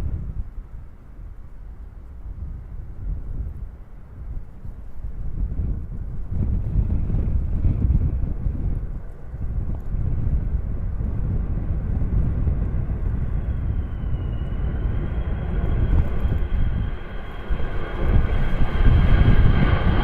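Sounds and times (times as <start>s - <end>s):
jet engines with high whine: 0.0s - 20.0s
wind rumble on microphone: 0.0s - 20.0s.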